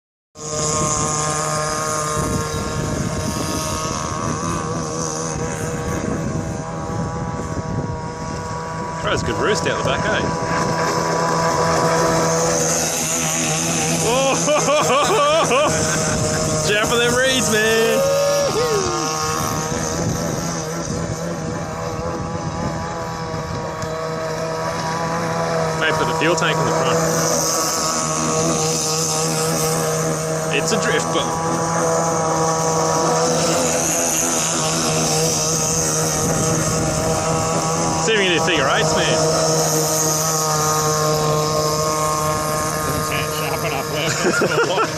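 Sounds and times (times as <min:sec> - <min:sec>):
model boat engine running: 0:00.4 - 0:44.9.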